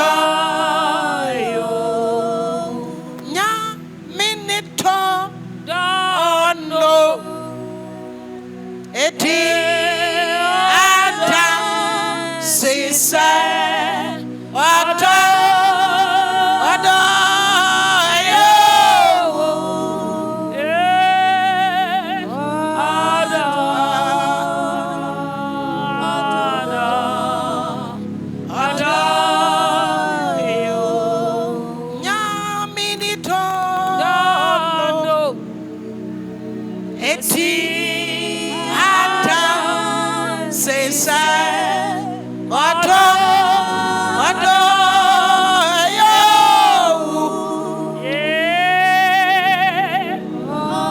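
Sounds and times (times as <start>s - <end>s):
person singing with vibrato: 0.0s - 36.0s, 37.0s - 50.9s
sustained accompaniment: 0.0s - 50.9s.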